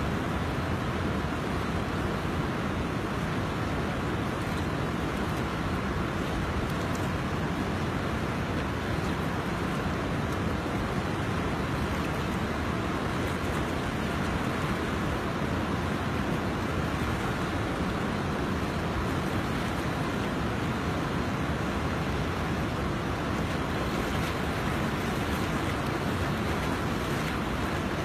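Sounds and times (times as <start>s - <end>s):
flooded river rushing: 0.0s - 28.0s.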